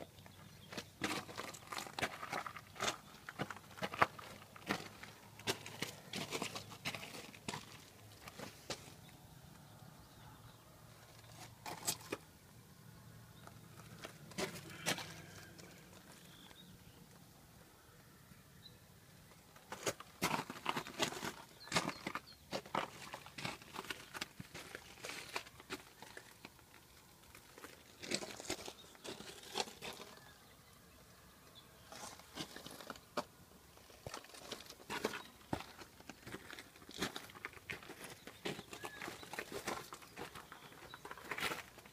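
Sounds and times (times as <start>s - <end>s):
rustling and crunching handling: 0.1s - 9.2s, 11.0s - 12.3s, 13.3s - 17.2s, 19.3s - 30.4s, 31.8s - 41.9s.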